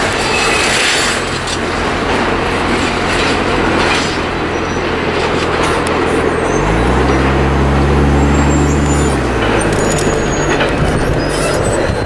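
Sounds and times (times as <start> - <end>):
high wheel squeals: 0.0 - 12.0
train wheels rumbling on rails: 0.0 - 12.0.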